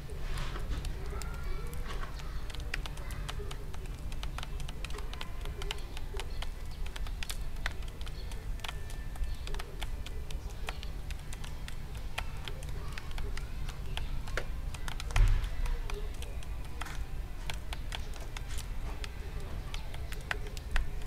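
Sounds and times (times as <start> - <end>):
birds pecking seed: 0.0 - 21.0.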